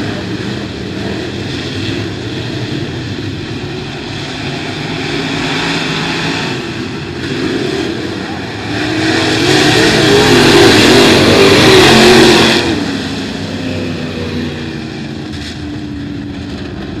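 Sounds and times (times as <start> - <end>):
race cars passing by: 0.0 - 17.0.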